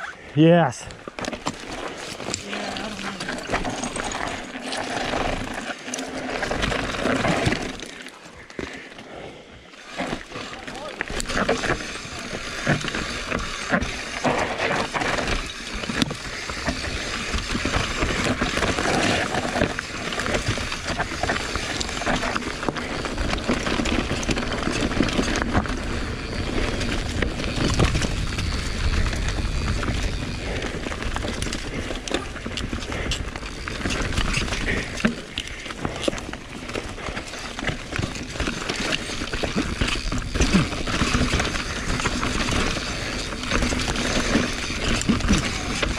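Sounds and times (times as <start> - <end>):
bike rattling: 0.6 - 45.9
bike tyres rolling over dirt: 0.7 - 45.9.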